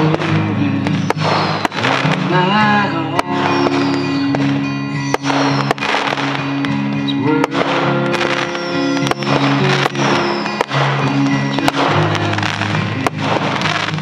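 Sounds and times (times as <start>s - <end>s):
song with singing: 0.0s - 5.7s, 6.4s - 14.0s
firework shells bursting: 0.0s - 14.0s.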